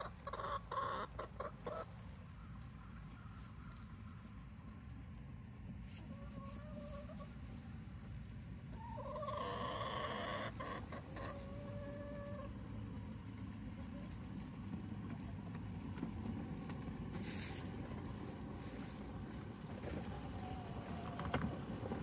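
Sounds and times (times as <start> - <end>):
miniature locomotive rumbling: 0.0 - 22.0.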